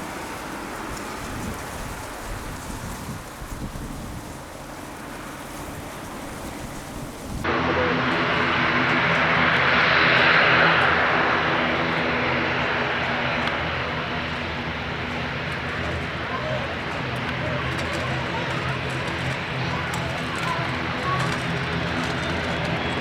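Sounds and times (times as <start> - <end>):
jet engine rushing hiss: 0.0 - 23.0.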